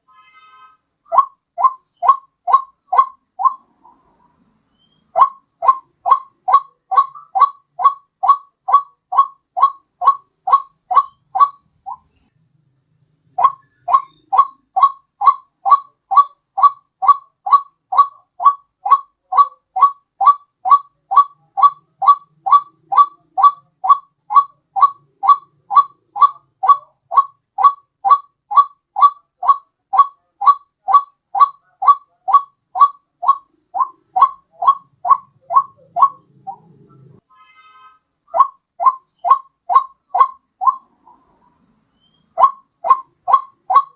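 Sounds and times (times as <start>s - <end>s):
bird call rising notes: 1.1s - 4.1s, 4.7s - 12.3s, 13.4s - 37.1s, 38.3s - 43.9s.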